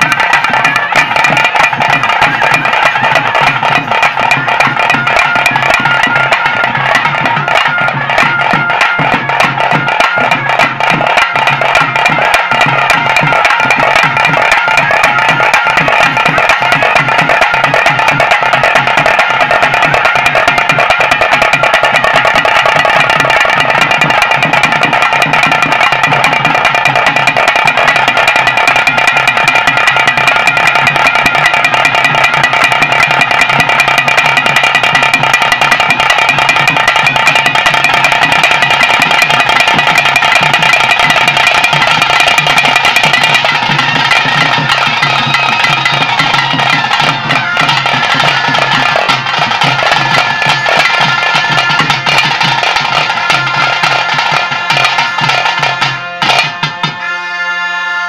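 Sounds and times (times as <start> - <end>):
fast drumming: 0.0 - 57.1.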